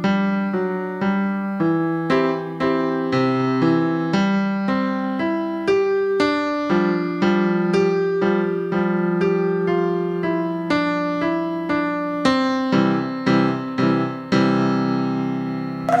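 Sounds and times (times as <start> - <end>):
digital piano playing slow piece: 0.0 - 16.0.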